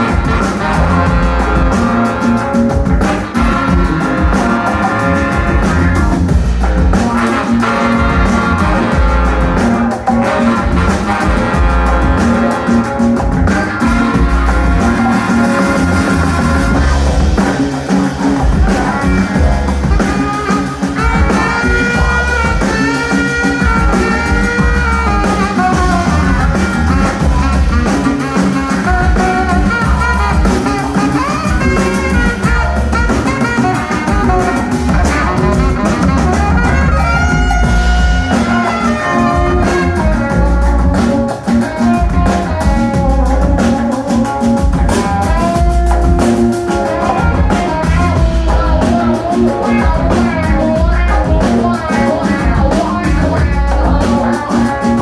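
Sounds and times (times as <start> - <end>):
bass: 0.0 - 55.0
drums and percussion: 0.0 - 55.0
electric guitars: 0.0 - 55.0
horn section playing: 0.0 - 55.0.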